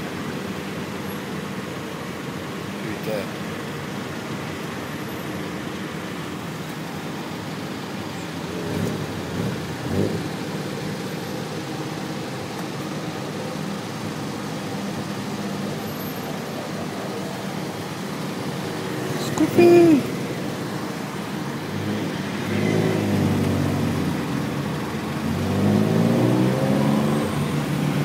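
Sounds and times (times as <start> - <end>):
auto rickshaw engine idling: 0.0 - 25.4, 27.3 - 28.0
traffic noise: 0.0 - 28.0.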